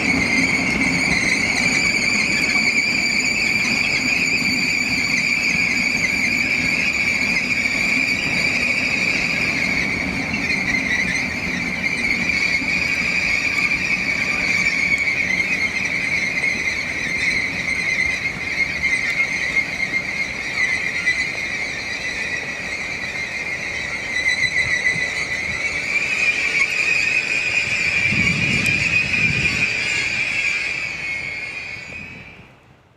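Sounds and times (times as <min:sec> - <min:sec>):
train wheels squealing on rails: 0:00.0 - 0:32.9.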